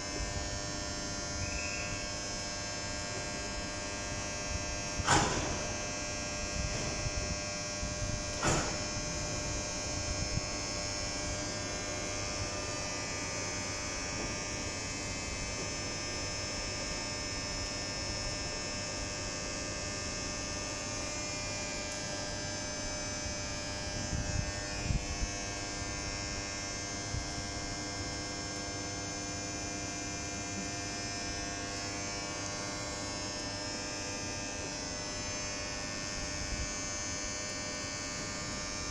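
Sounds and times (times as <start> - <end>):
train equipment electrical hum: 0.0 - 38.9.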